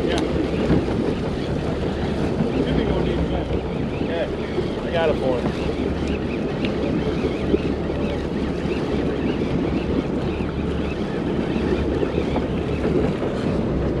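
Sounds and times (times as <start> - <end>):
boat engine drone: 0.0 - 14.0
water washing: 0.0 - 14.0
wind on microphone: 0.0 - 14.0.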